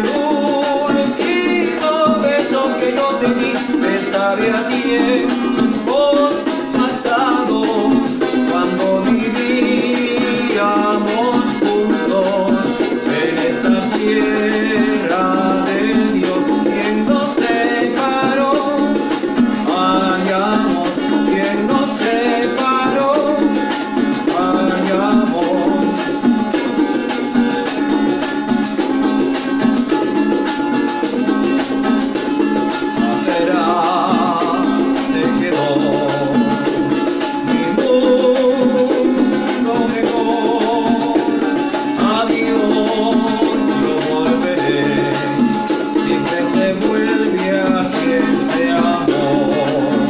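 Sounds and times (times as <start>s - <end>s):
man singing a ballad: 0.0s - 26.3s, 32.9s - 50.0s
maraca shaken: 0.0s - 50.0s
strummed acoustic guitar: 0.0s - 50.0s.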